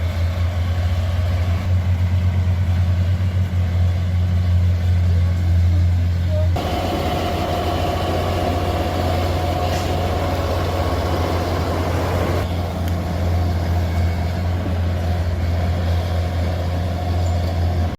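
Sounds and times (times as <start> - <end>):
heavy vehicle engine humming: 0.0 - 17.9.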